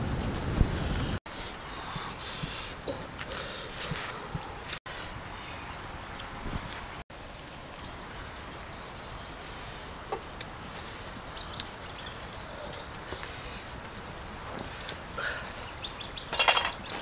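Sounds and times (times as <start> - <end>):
outdoor background hiss: 0.0 - 17.0
birds chirping: 0.8 - 7.0, 7.6 - 17.0.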